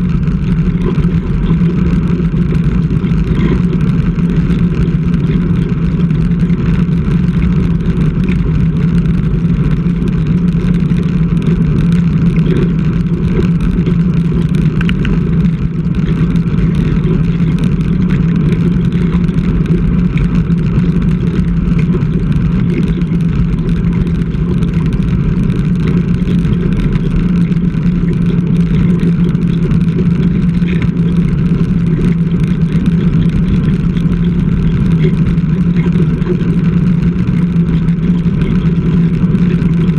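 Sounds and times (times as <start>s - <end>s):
low rumble and hum: 0.0s - 39.9s
wind and road noise: 0.0s - 39.9s.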